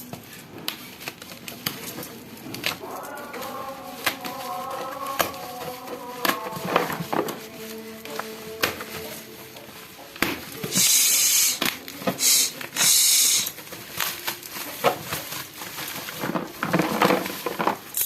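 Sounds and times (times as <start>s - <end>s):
packaging ripping: 0.0s - 18.0s
packaging rustling: 0.0s - 18.0s.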